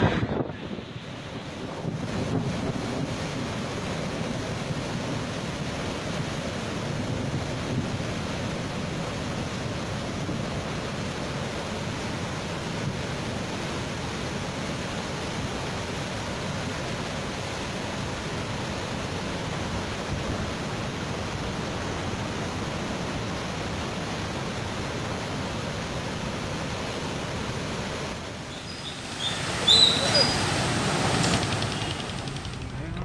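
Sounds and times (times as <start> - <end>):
floodwater rushing over rapids: 0.0 - 33.0.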